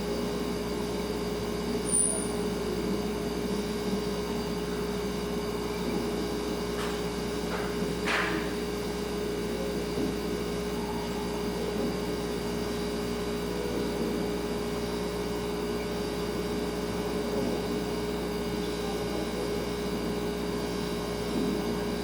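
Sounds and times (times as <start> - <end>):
refrigerator humming: 0.0 - 22.0.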